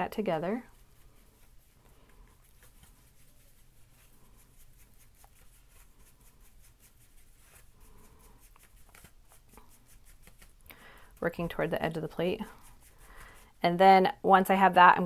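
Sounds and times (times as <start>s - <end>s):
paintbrush scraping on paper plate: 0.0s - 14.8s.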